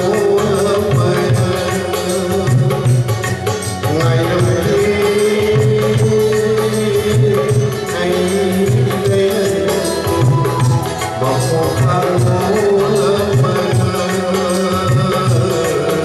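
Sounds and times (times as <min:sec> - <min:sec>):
electric guitar: 0:00.0 - 0:16.0
man singing: 0:00.0 - 0:16.0
tabla drum strokes: 0:00.0 - 0:16.0.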